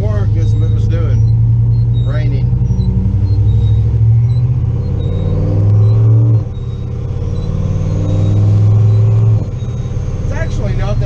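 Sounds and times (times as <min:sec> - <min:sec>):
car engine revving: 0:00.0 - 0:11.0
windshield wipers squeaking: 0:00.0 - 0:11.0.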